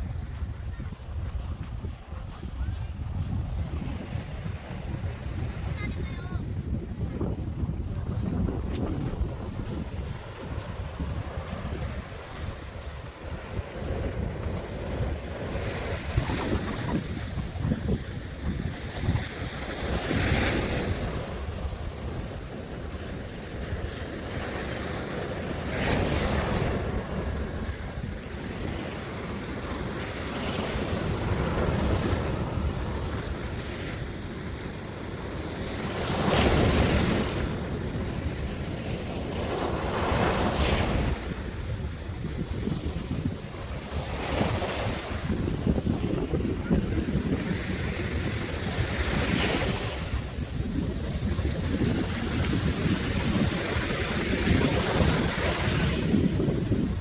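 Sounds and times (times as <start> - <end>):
sea waves breaking on shore: 0.0 - 57.0
wind rumbling on microphone: 0.0 - 57.0.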